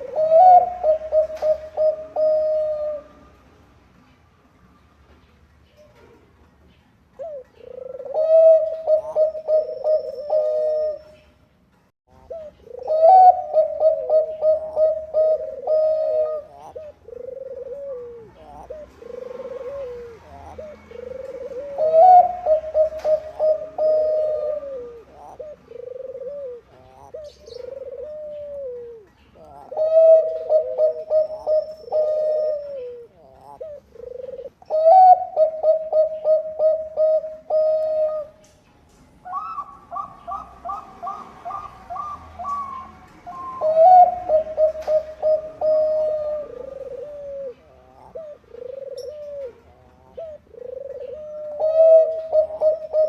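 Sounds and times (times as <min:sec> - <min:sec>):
dove cooing: 0:00.0 - 0:03.4, 0:07.1 - 0:11.4, 0:12.1 - 0:38.6, 0:39.2 - 0:53.0.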